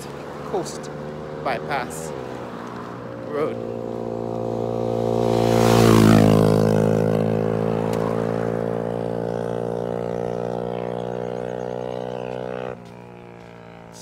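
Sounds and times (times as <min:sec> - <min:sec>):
motor vehicle passing: 0:00.0 - 0:14.0.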